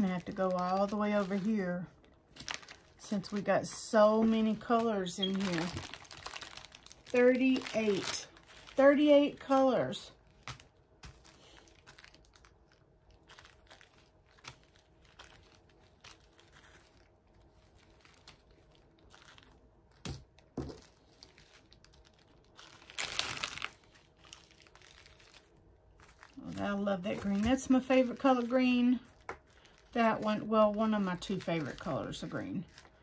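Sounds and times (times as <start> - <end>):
plastic bags crinkling: 0.0 - 33.0.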